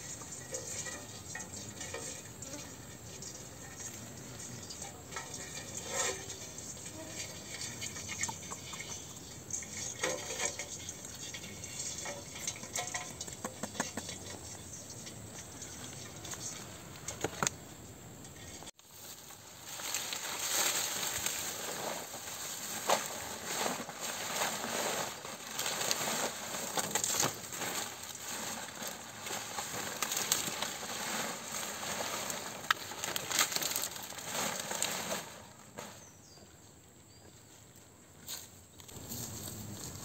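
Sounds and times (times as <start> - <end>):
leaves rustling and crackling: 0.0 - 13.4, 18.6 - 36.2, 38.2 - 40.0.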